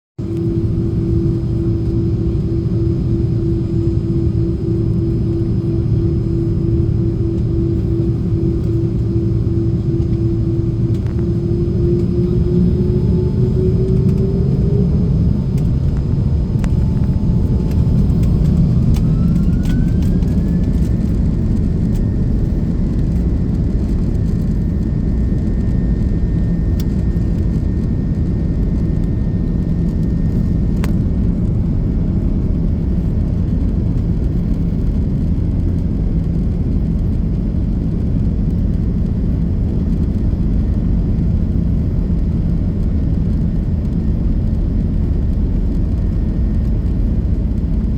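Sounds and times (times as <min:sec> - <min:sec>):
engine whine: 0:00.2 - 0:47.9
jet engines rumbling: 0:00.2 - 0:47.9.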